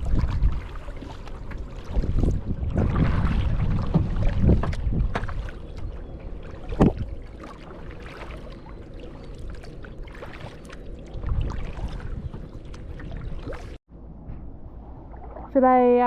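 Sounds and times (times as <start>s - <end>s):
water splashing from paddling: 0.0s - 13.8s.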